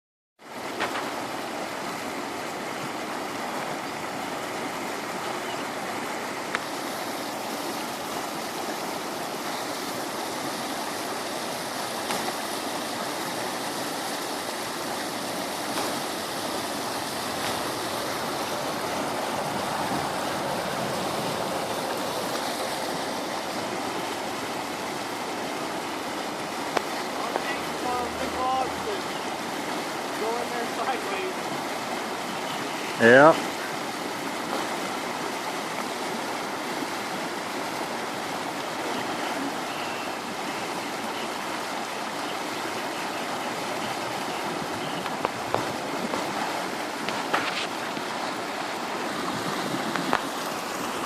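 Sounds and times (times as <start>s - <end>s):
flood water rushing: 0.4s - 51.0s.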